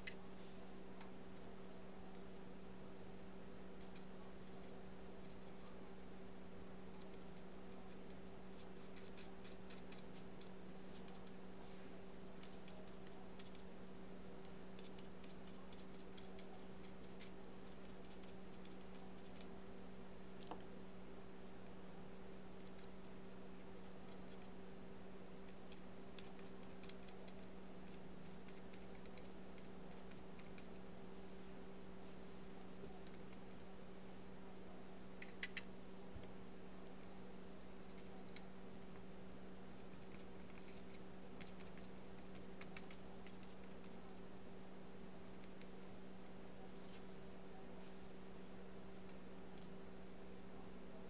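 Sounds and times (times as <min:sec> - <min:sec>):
paintbrush strokes on paper: 0:00.0 - 0:20.1, 0:21.2 - 0:51.0
steady low hum: 0:00.0 - 0:51.0.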